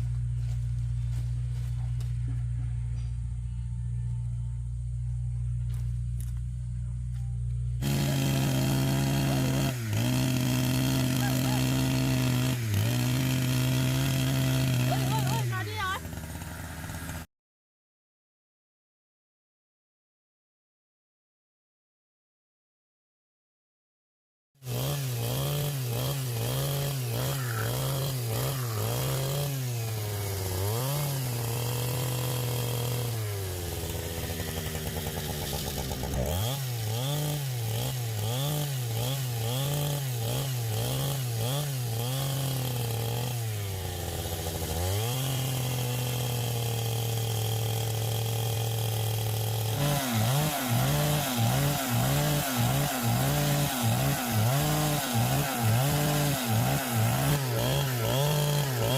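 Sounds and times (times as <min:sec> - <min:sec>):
chainsaw running: 0:00.0 - 0:04.0, 0:04.8 - 0:17.3, 0:24.6 - 0:58.9.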